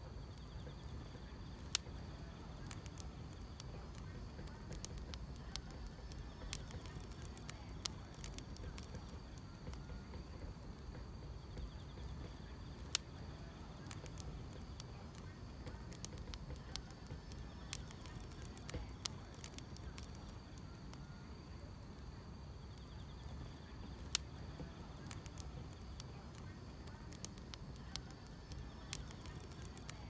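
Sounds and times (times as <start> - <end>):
crickets chirping: 0.0 - 30.0
wood fire crackling and popping: 0.0 - 30.0.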